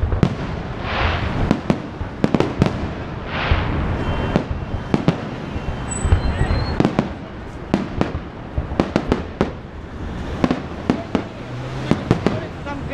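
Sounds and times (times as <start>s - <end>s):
fireworks bangs: 0.0s - 12.9s
fireworks hissing: 0.0s - 12.9s.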